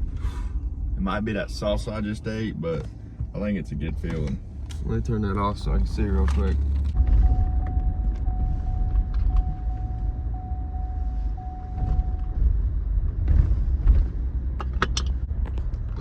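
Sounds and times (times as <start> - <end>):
vehicle cabin rumble: 0.0 - 16.0.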